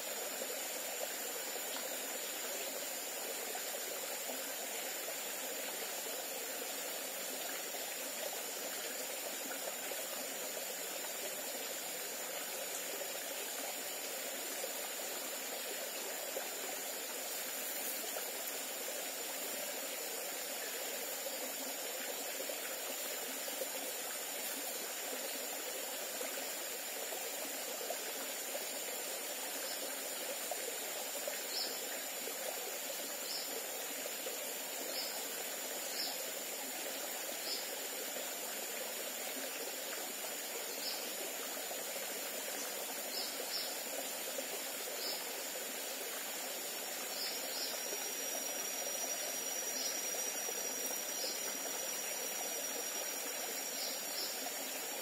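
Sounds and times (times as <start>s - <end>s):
stream splashing over stones: 0.0s - 55.0s.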